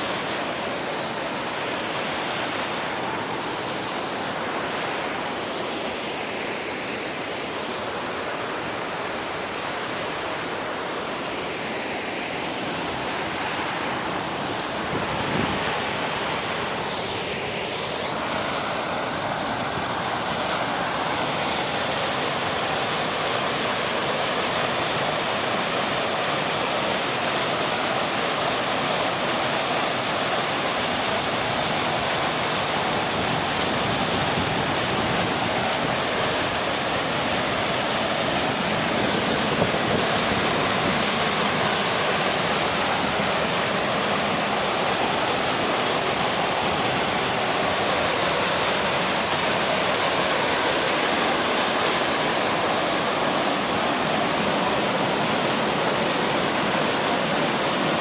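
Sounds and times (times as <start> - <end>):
rushing mountain water: 0.0 - 58.0.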